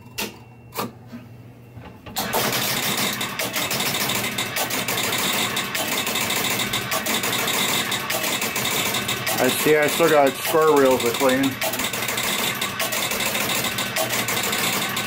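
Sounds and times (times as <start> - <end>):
pinball machine motor running: 2.2 - 15.0.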